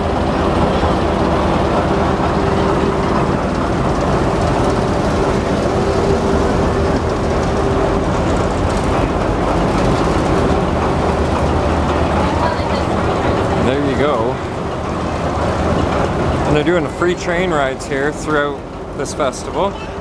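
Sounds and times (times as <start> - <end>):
constant hum: 0.0 - 20.0
locomotive engine rumbling: 0.0 - 20.0.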